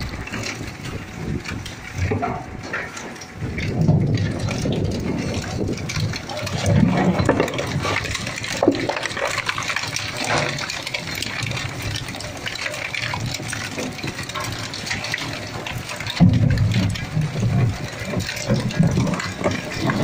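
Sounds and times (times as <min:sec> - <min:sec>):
plastic cracking in shredder: 0:00.0 - 0:20.0
shredder mechanical rumble: 0:00.0 - 0:20.0.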